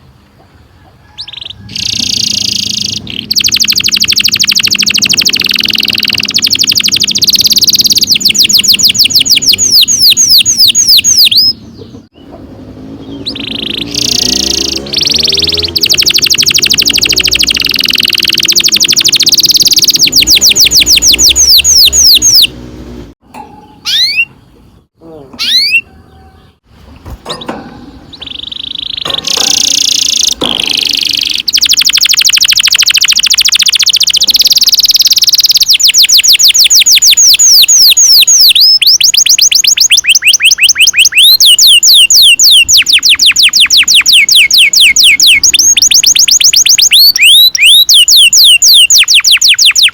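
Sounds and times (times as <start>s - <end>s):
canary singing trills: 1.0s - 22.7s, 23.4s - 49.9s.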